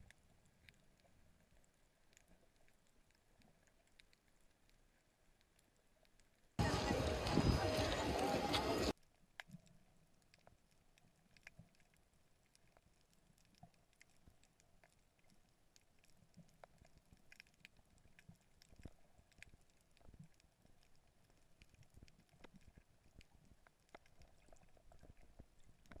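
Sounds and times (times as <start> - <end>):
clicks and crackles: 0.0 - 26.0.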